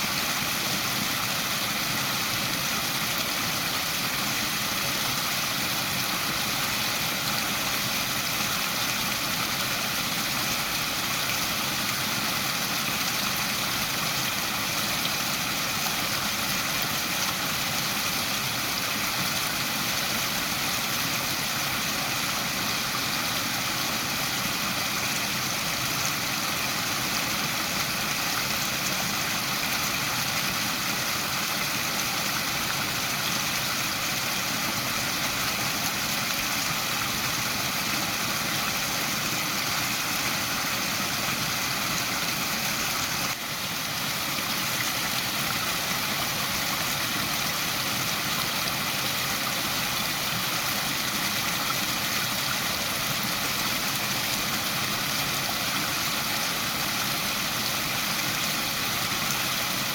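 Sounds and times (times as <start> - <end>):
waterfall hissing: 0.0 - 59.9.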